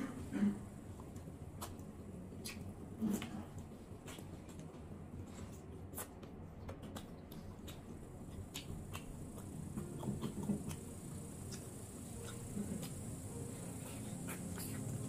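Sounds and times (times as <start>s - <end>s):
chewing with wet mouth clicks: 1.0s - 14.9s.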